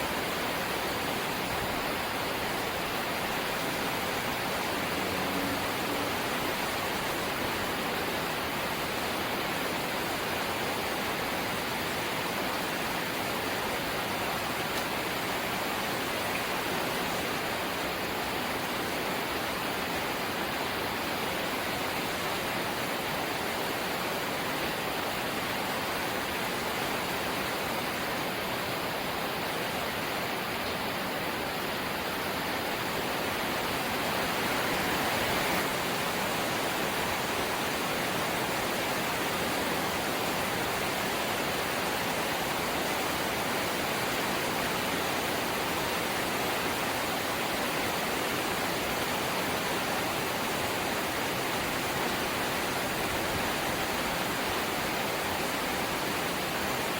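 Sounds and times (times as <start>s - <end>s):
rain on a metal roof: 0.0s - 56.9s.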